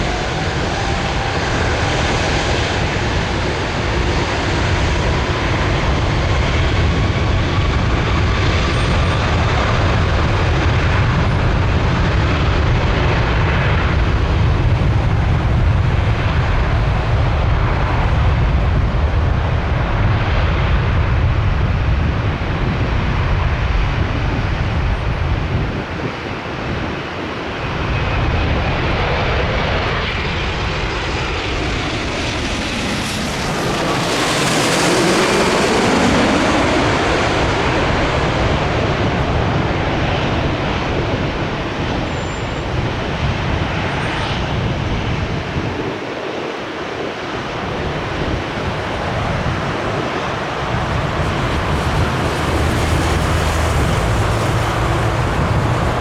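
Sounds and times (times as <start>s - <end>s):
jet engine whine passing overhead: 0.0s - 56.0s
jet engines rumbling overhead: 0.0s - 56.0s.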